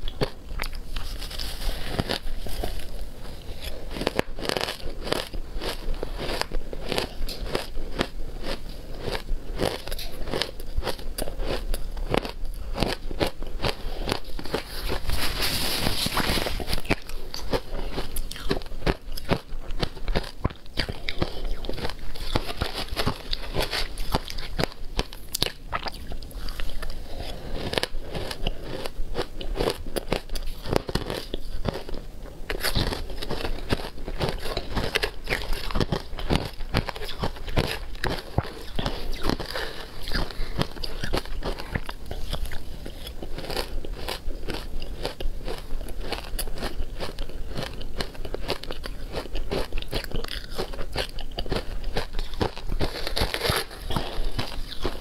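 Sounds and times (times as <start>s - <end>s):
chewing crunchy ice: 0.0s - 55.0s.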